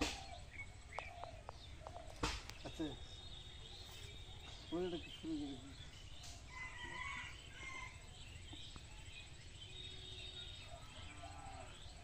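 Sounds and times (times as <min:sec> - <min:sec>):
faint bird chirps: 0:00.0 - 0:12.0
low steady background noise: 0:00.0 - 0:12.0.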